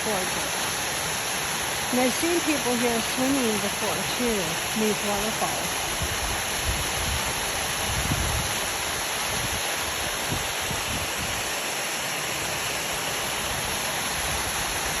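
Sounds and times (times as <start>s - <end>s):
waterfall pouring into pool: 0.0s - 15.0s.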